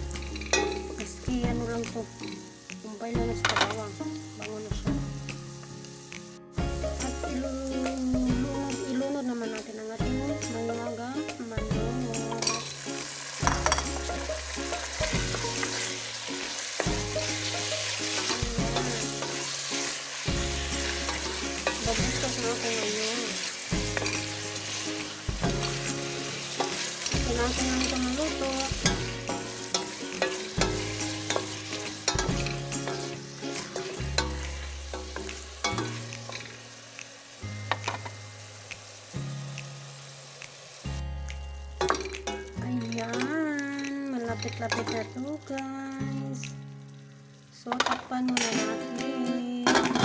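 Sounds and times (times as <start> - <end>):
chicken sizzling in hot oil: 0.0 - 50.0
soft background music: 0.0 - 50.0.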